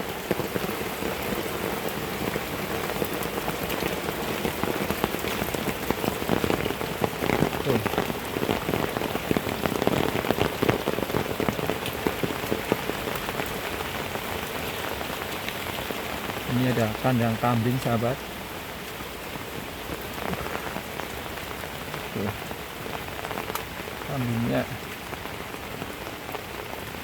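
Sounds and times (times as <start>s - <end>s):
heavy rain pouring: 0.0s - 27.0s
raindrops striking: 0.0s - 27.0s.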